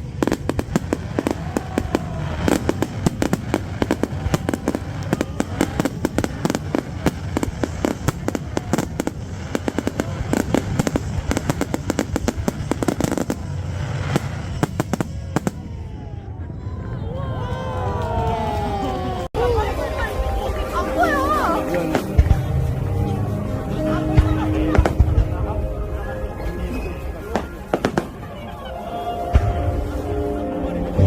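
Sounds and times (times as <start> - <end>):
fireworks cracking and banging: 0.0 - 31.0.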